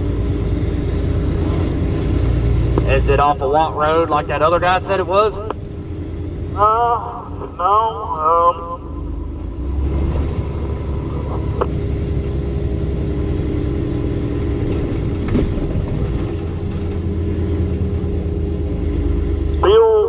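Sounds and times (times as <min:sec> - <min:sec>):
diesel engine drone: 0:00.0 - 0:20.0
road noise: 0:00.0 - 0:20.0.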